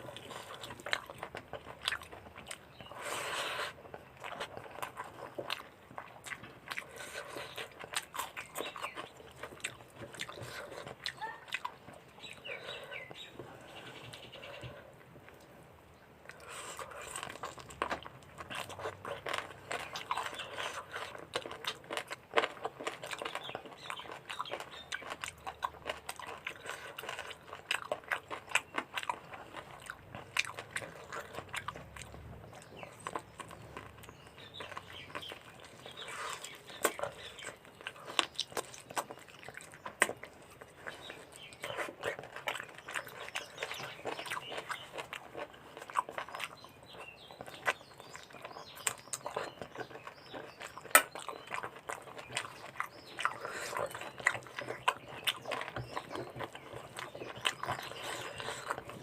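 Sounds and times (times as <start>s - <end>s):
chewing with mouth clicks: 0.0s - 15.5s, 16.1s - 59.0s.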